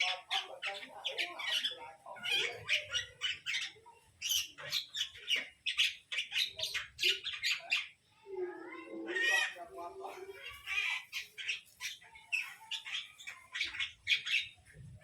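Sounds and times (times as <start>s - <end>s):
gecko squawking: 0.0s - 8.0s, 8.7s - 14.6s.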